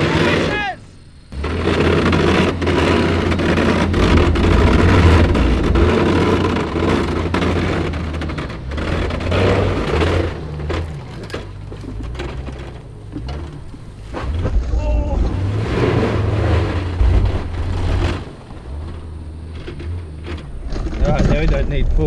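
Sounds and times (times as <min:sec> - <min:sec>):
vehicle engine running hard: 0:01.3 - 0:22.0
sharp knocks and clatter: 0:01.4 - 0:14.6, 0:16.6 - 0:22.0.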